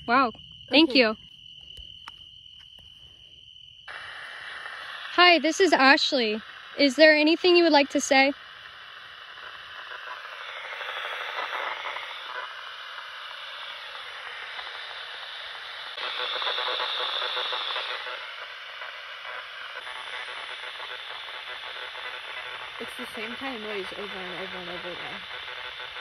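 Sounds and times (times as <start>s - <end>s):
choppy radio hiss: 3.9s - 26.0s.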